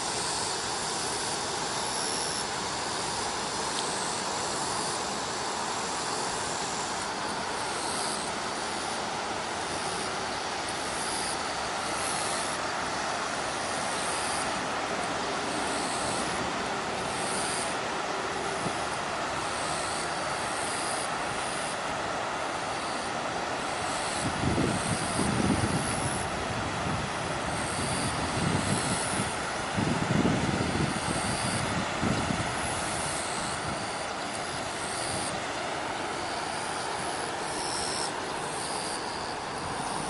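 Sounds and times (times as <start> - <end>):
water rushing over rocks: 0.0 - 40.0.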